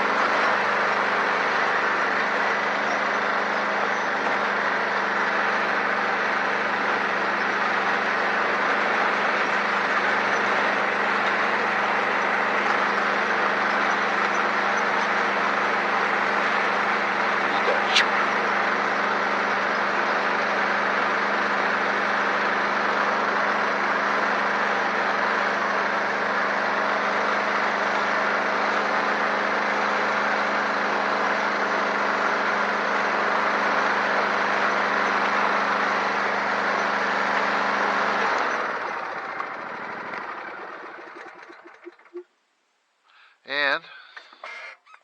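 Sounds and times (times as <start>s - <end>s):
engine running: 0.0s - 42.4s.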